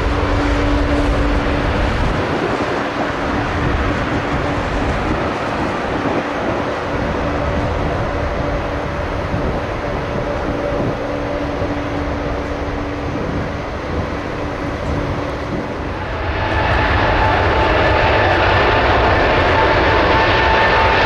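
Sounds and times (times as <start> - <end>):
high engine whine: 0.0 - 21.0
jet engine rumble: 0.0 - 21.0.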